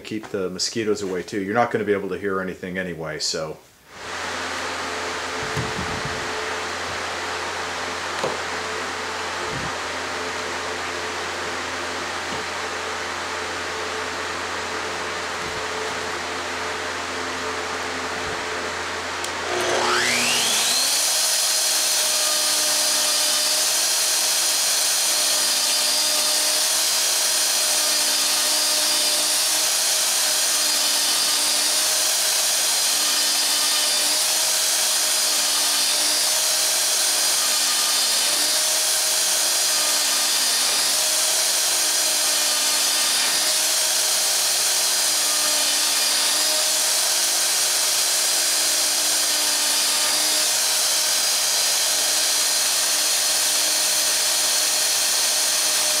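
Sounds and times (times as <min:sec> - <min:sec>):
router cutting hardwood: 0:03.9 - 0:56.0.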